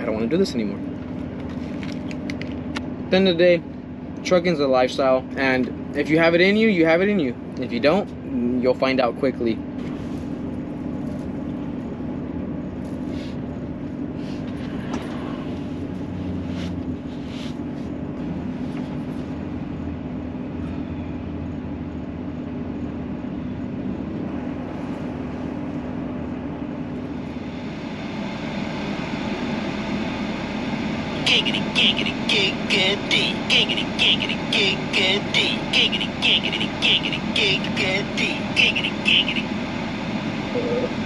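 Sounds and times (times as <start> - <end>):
vehicle engine humming: 0.0 - 41.0.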